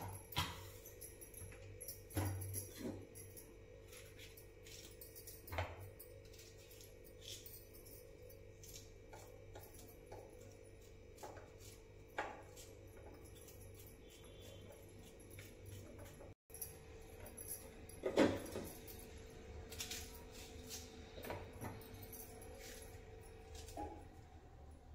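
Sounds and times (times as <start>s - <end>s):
knife clinking on metal bowls: 0.0s - 24.1s.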